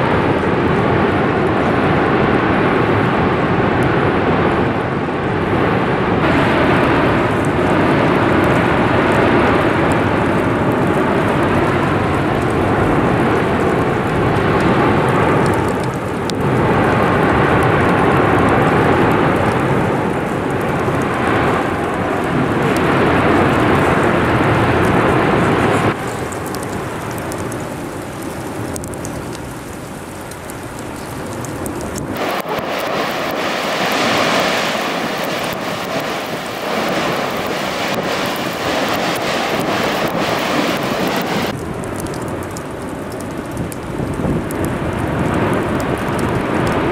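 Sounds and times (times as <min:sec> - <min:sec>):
volcanic eruption roaring: 0:00.0 - 0:46.9.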